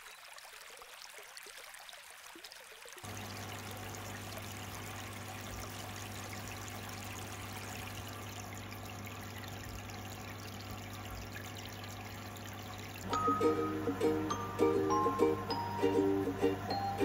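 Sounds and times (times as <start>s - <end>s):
aquarium water trickling: 0.0s - 17.0s.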